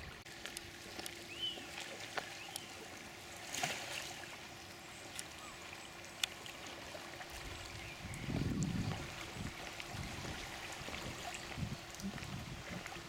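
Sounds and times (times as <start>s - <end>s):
paddles splashing in water: 0.0s - 13.0s.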